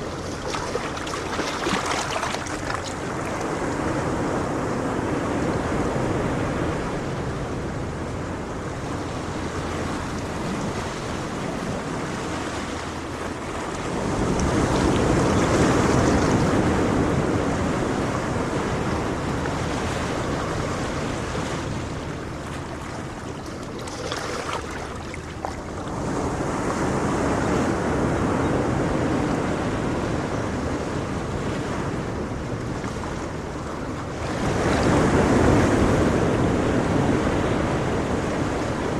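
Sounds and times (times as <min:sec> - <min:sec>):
ocean surf: 0:00.0 - 0:38.9
wind noise on microphone: 0:00.0 - 0:38.9.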